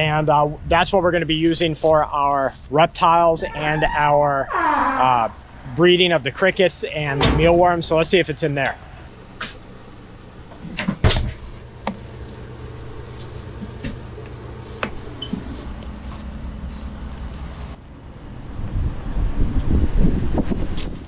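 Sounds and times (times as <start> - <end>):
steady low hum: 0.0 - 20.2.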